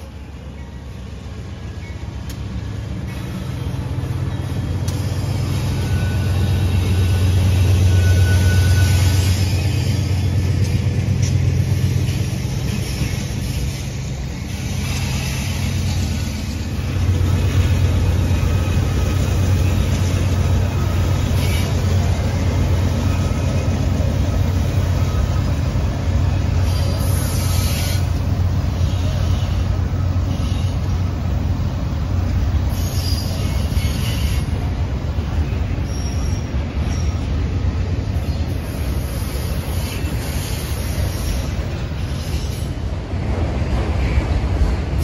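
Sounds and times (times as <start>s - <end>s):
diesel locomotive drone: 0.0s - 45.0s
train rumble: 0.0s - 45.0s.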